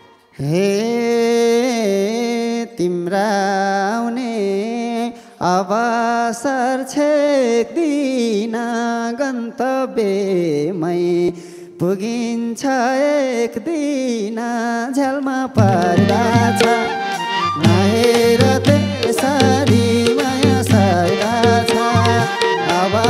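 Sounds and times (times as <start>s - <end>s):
man singing into a microphone: 0.3s - 23.0s.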